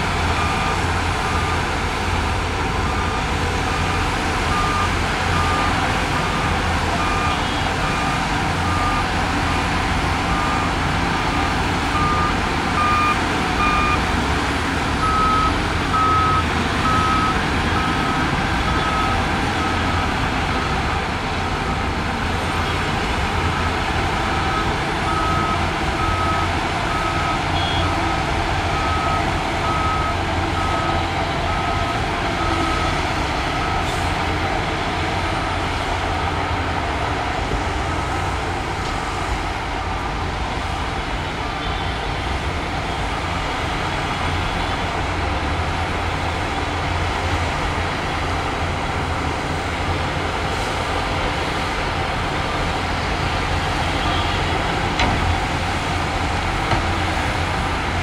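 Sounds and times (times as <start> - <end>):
diesel engine rumble: 0.0 - 58.0.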